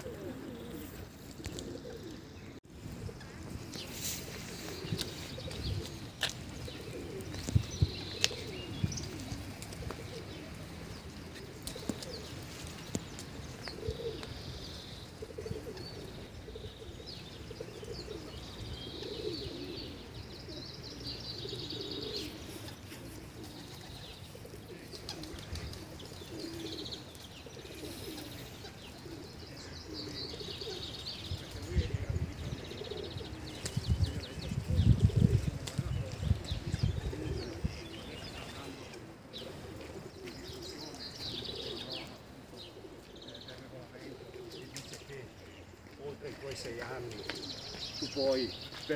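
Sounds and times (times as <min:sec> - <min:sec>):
bird cooing: 0:00.0 - 0:45.9, 0:46.5 - 0:48.7
birds chirping and twittering: 0:00.0 - 0:48.9.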